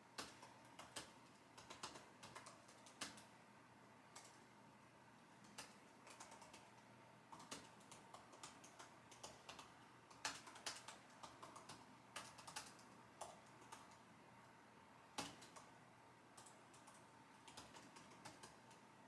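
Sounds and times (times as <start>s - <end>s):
computer keyboard typing: 0.2s - 3.4s, 4.1s - 4.5s, 5.4s - 14.1s, 15.2s - 15.8s, 16.4s - 18.9s.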